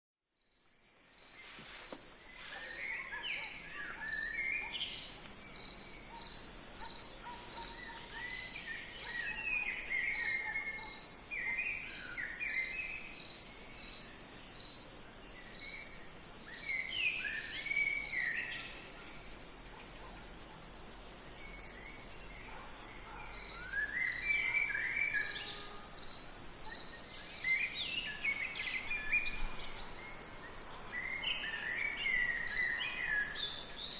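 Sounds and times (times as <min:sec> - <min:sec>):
insect chirping: 0:00.3 - 0:33.9.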